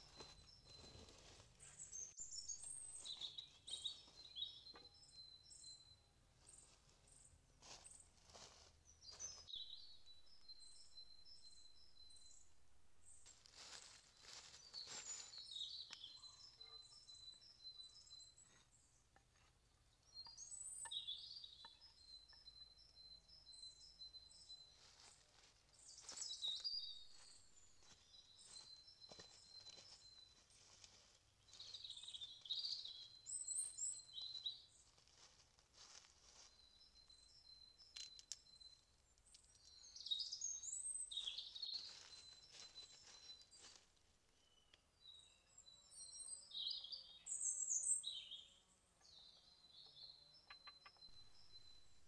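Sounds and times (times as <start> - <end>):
songbird singing: 0.0 - 52.0.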